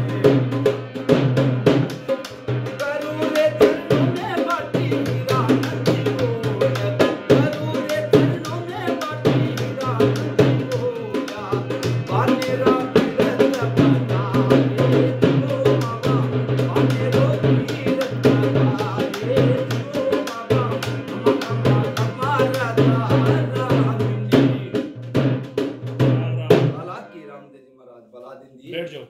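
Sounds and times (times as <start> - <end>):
hand drum beating: 0.0 - 26.8
man singing: 0.0 - 27.1.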